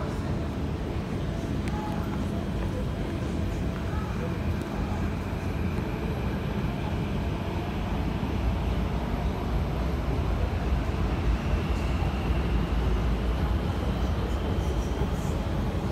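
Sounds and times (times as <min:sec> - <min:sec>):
metro train rumble: 0:00.0 - 0:15.9.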